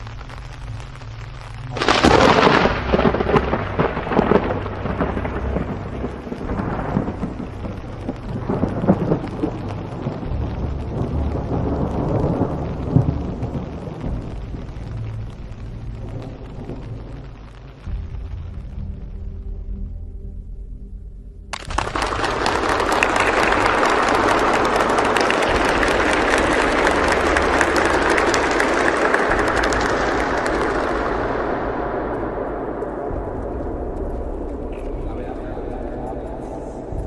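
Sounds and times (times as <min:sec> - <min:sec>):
thunder crack: 0:00.0 - 0:19.4, 0:21.5 - 0:37.0
rolling thunder rumble: 0:00.0 - 0:20.3, 0:21.6 - 0:37.0.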